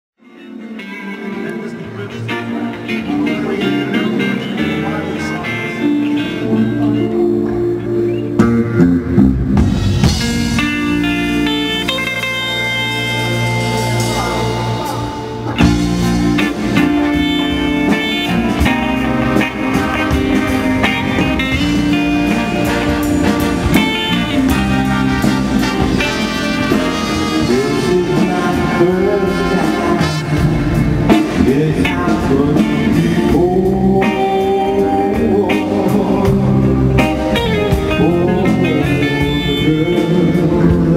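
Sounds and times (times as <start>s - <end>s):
lead singer on microphone: 0.2s - 10.4s, 11.0s - 40.9s
soul band playing live: 0.2s - 40.9s.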